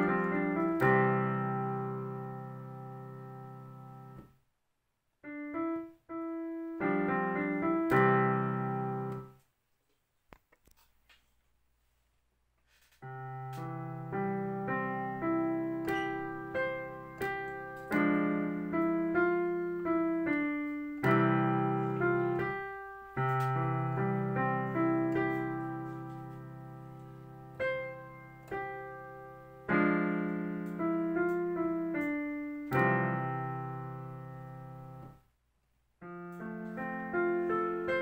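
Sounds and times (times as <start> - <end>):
digital piano slow piece: 0.0 - 4.4, 5.2 - 9.4, 13.0 - 35.3, 36.0 - 38.0.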